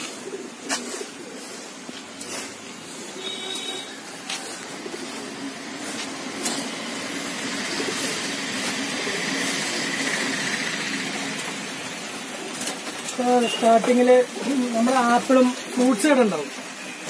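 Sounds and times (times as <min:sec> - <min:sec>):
pigeons cooing: 0:00.0 - 0:17.0
steady rushing hiss: 0:00.0 - 0:17.0.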